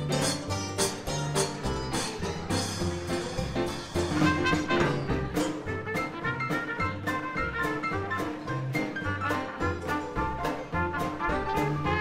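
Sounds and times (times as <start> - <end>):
hot jazz band playing: 0.0 - 12.0.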